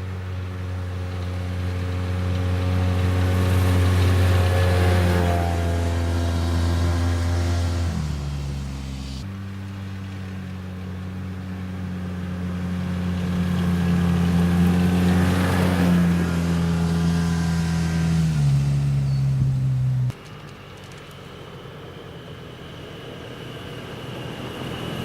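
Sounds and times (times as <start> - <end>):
utility vehicle driving past: 0.0 - 20.8.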